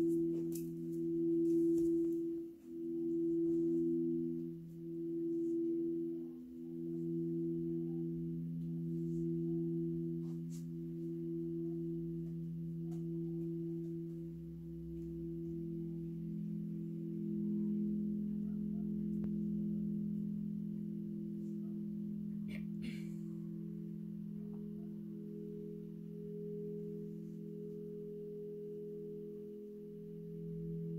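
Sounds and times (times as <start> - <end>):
crystal singing bowls ringing: 0.0 - 30.9.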